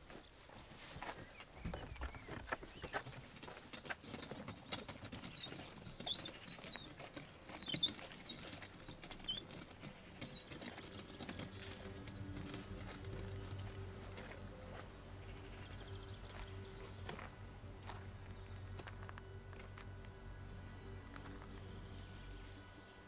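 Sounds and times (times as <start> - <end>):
bird chirps: 0.0 - 23.0
footsteps on garden path: 0.0 - 23.0
wheelbarrow crunching and knocking: 0.0 - 23.0.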